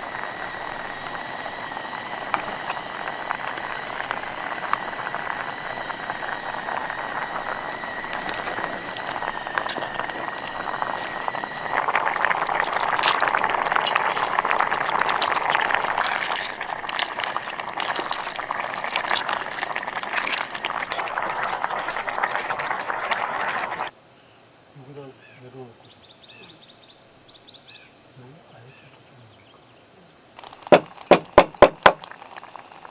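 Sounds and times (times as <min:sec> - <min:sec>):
food sizzling and bubbling: 0:00.0 - 0:23.9, 0:30.4 - 0:32.9.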